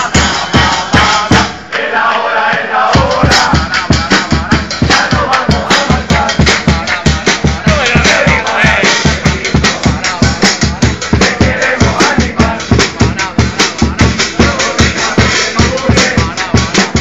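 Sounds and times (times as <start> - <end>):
upbeat music with drum beat: 0.0 - 17.0.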